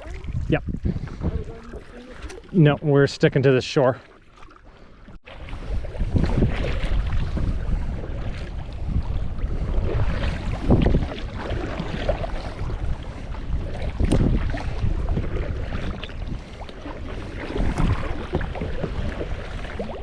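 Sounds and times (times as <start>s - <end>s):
wind rumbling on microphone: 0.0s - 2.5s, 5.3s - 20.0s
canoe paddling on water: 0.0s - 20.0s.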